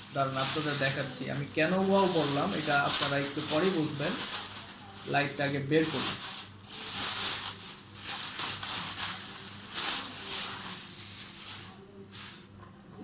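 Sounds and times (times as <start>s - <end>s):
packaging rustling and scraping: 0.0s - 12.6s.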